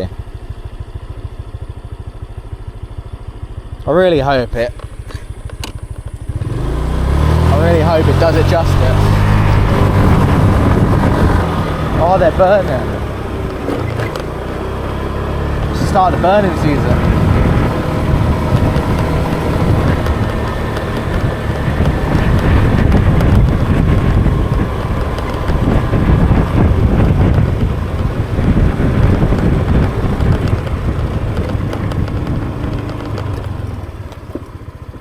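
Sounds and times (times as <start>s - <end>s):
motorbike engine running: 0.0s - 35.0s.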